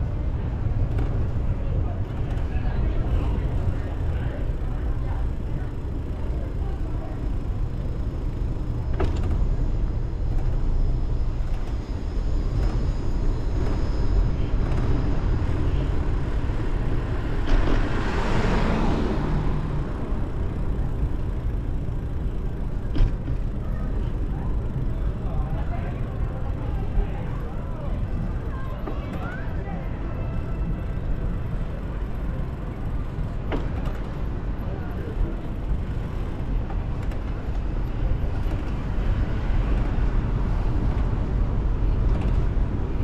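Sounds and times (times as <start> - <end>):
street noise: 0.0 - 43.0.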